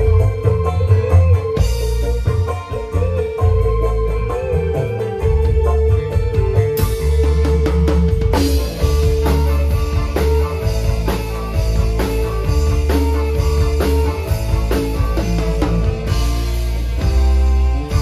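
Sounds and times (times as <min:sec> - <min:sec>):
drums with heavy bass: 0:00.0 - 0:18.0
electric guitar: 0:00.0 - 0:18.0.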